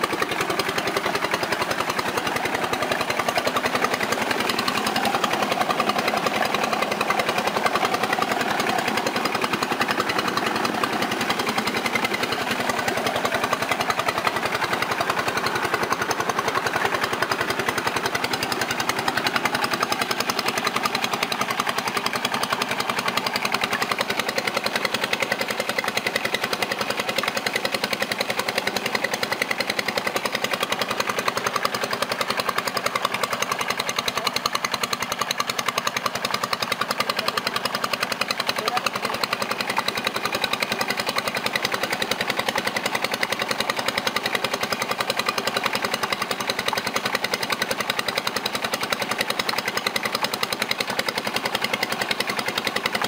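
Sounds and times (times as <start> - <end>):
rice mill machinery clatter: 0.0 - 53.0.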